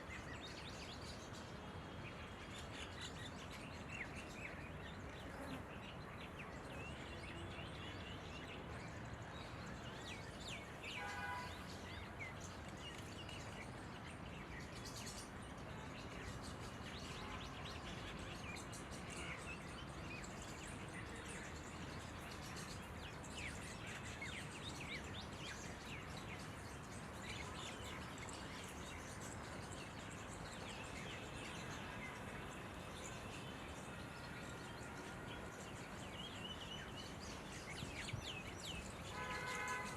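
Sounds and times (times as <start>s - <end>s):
birds chirping: 0.3s - 39.9s.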